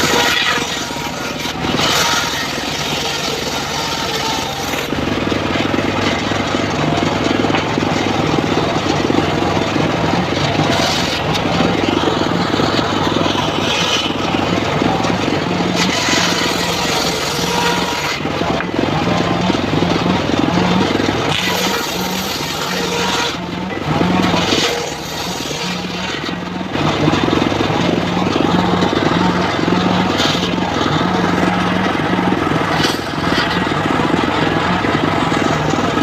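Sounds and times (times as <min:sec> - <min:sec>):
sawmill engine running: 0:00.0 - 0:36.0.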